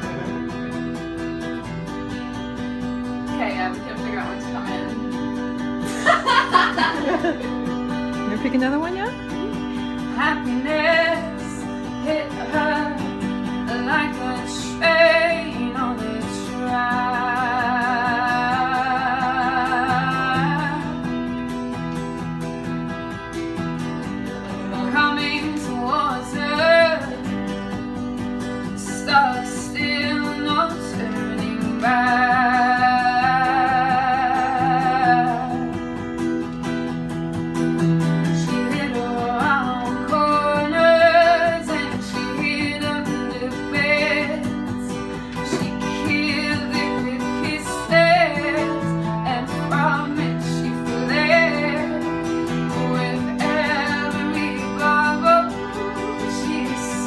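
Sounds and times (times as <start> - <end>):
strummed acoustic guitar: 0.0 - 57.0
woman singing: 3.1 - 21.6, 24.0 - 36.1, 38.0 - 57.0.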